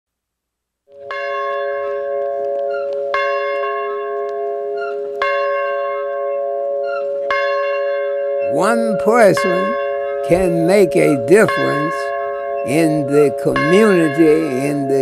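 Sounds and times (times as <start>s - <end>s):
large bell ringing: 0.9s - 15.0s.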